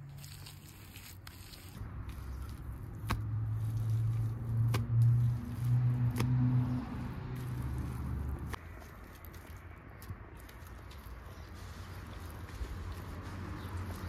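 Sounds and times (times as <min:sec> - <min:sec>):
hands scraping dry soil: 0:00.0 - 0:14.0.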